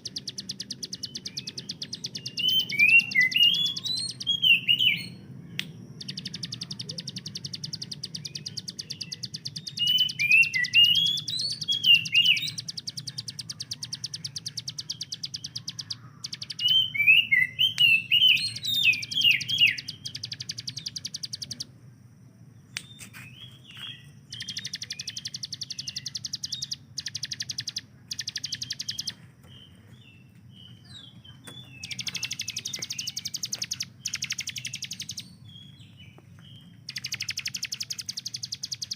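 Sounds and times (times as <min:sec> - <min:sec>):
bird singing fast trills: 0:00.0 - 0:21.8, 0:22.6 - 0:38.9
sharp bird chirps: 0:00.0 - 0:21.8, 0:22.6 - 0:38.9
steady low hum: 0:00.0 - 0:38.9.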